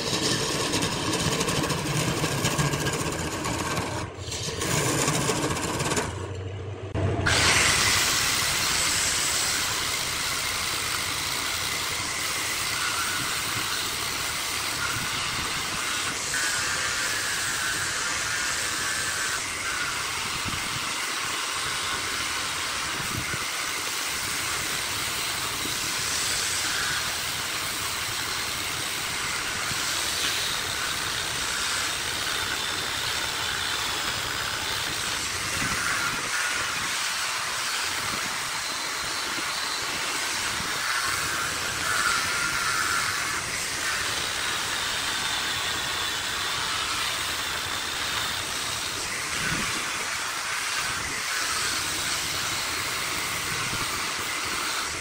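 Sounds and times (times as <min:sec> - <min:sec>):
wood lathe hissing with whine: 0:00.0 - 0:06.4, 0:07.2 - 0:55.0.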